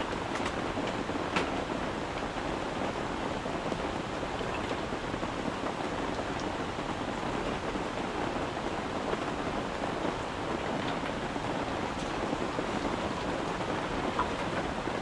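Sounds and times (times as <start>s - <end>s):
rain on a tent: 0.0s - 15.0s.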